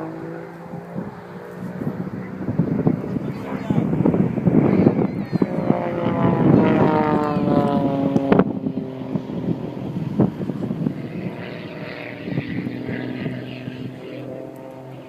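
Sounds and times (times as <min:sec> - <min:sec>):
propeller airplane engine overhead: 0:00.0 - 0:15.0.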